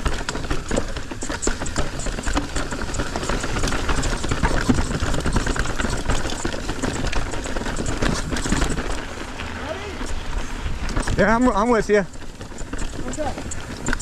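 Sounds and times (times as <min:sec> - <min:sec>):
bike chain rattling: 0:00.0 - 0:14.0
tyres crunching over dirt: 0:00.0 - 0:14.0.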